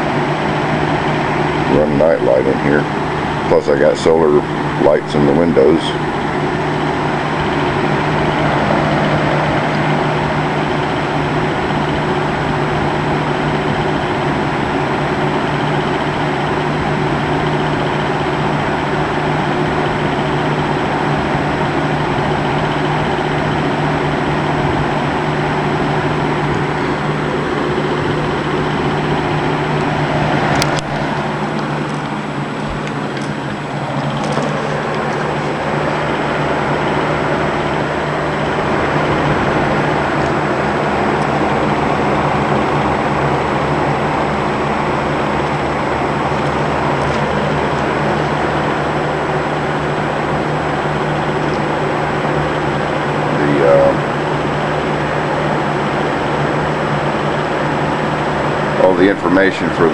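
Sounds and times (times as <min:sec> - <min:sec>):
box fan whooshing: 0:04.5 - 0:59.0.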